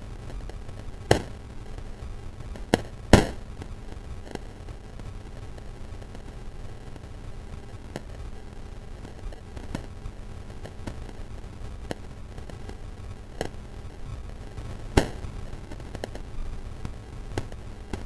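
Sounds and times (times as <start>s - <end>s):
wood fire crackling and popping: 0.2s - 18.0s.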